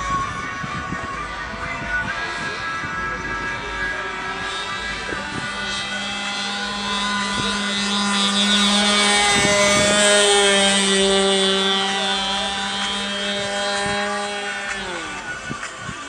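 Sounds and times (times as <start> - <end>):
model airplane motor buzzing: 0.0 - 16.0.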